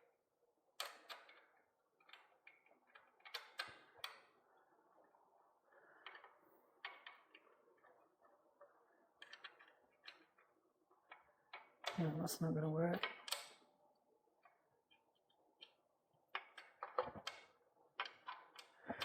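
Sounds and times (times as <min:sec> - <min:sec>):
small parts and tools clicking: 0:00.1 - 0:12.1, 0:12.9 - 0:19.0.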